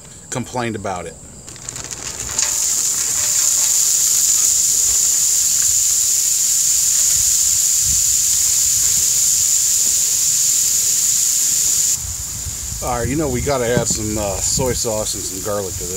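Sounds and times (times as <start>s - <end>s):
vegetables sizzling on a griddle: 1.6s - 15.9s.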